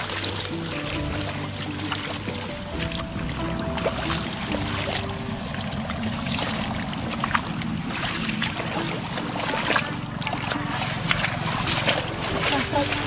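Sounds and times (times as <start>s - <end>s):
short splashes: 0.0s - 13.0s
water sloshing: 0.0s - 13.0s.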